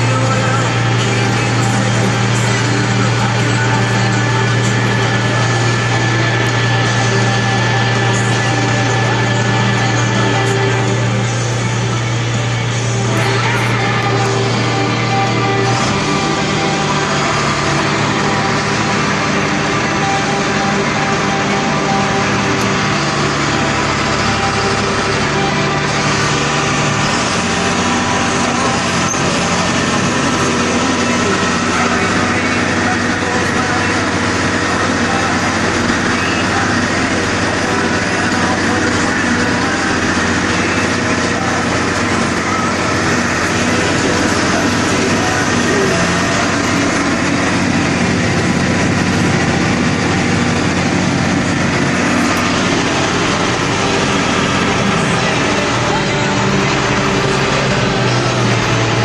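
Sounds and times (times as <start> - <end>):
combine harvester running: 0.0 - 59.0
engine hum: 0.0 - 59.0.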